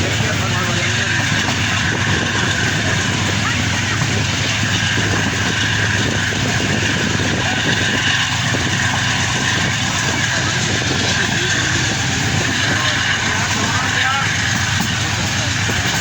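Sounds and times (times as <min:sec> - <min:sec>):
passenger train rumbling: 0:00.0 - 0:16.0.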